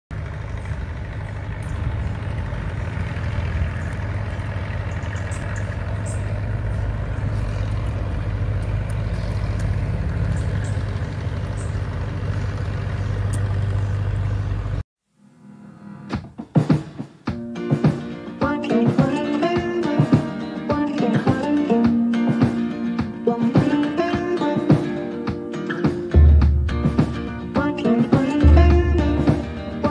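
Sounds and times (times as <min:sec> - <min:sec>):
engine droning: 0:00.1 - 0:14.8, 0:18.1 - 0:29.9.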